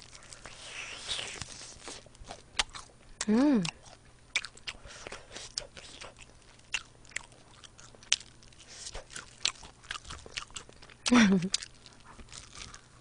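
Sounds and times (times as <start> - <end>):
chewing crispy chicken: 0.0 - 13.0.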